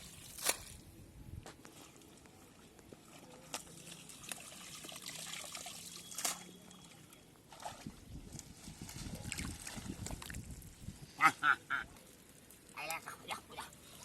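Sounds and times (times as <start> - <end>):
shallow water trickling: 1.7 - 11.1, 11.9 - 14.0.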